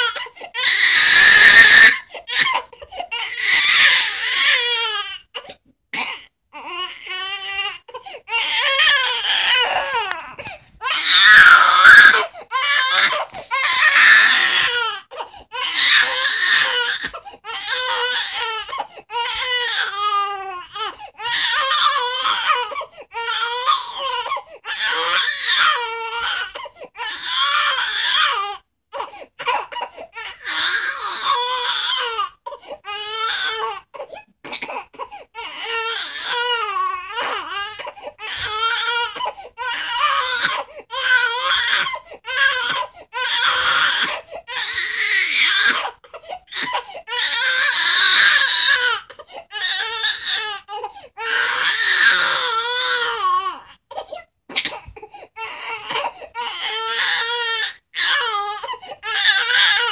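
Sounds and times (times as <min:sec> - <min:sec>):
baby crying hard: 0:00.0 - 0:59.9.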